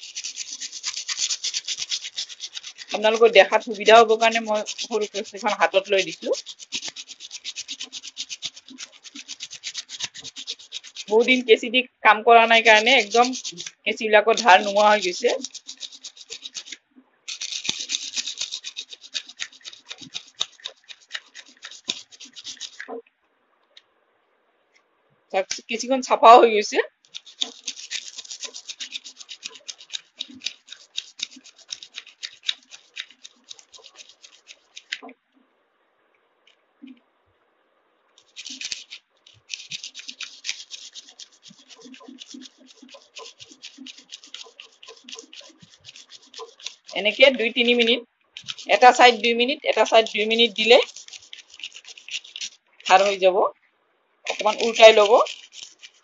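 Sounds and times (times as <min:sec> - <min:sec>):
sharpening stone scraping scissor blade: 0:00.0 - 0:11.4, 0:12.7 - 0:22.9, 0:27.0 - 0:35.0, 0:38.2 - 0:47.8, 0:48.4 - 0:53.2, 0:54.3 - 0:56.0.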